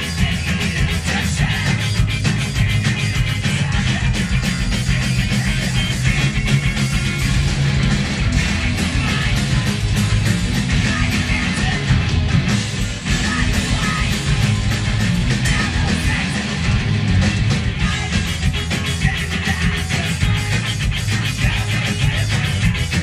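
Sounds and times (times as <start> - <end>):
bass: 0.0 - 23.0
drums: 0.0 - 23.0
electric guitars: 0.0 - 23.0.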